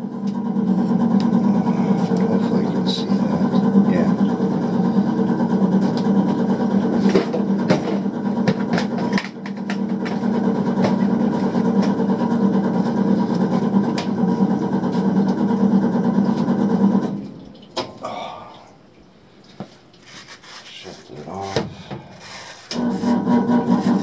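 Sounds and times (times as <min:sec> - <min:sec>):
blower motor humming: 0:00.0 - 0:18.9, 0:21.1 - 0:24.0.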